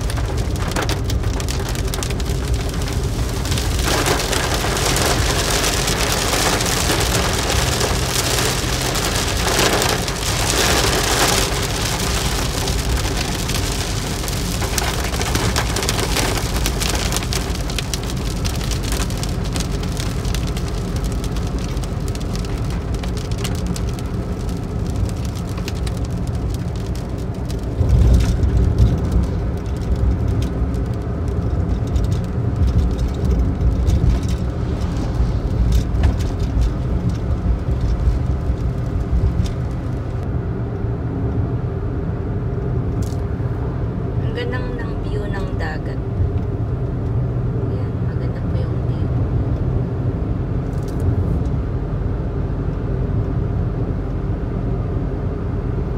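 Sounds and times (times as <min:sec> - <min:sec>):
raindrops pattering on windscreen: 0:00.0 - 0:40.3, 0:42.6 - 0:54.4
road and engine rumble: 0:00.0 - 0:55.9.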